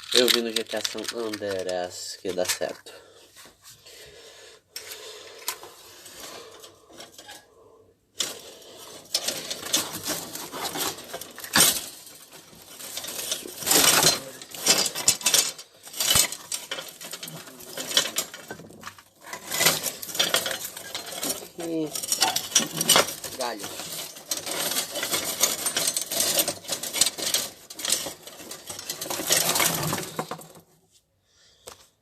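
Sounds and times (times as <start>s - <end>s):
hard objects clattering and clinking: 0.0s - 3.5s, 4.7s - 30.8s.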